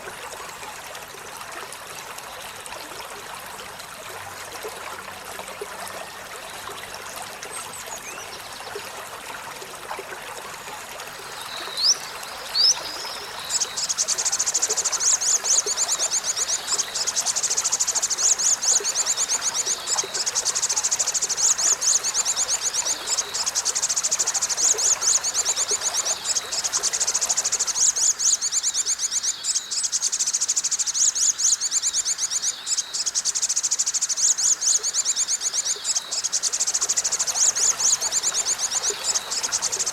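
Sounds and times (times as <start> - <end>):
faint stream-like murmur: 0.0 - 39.9.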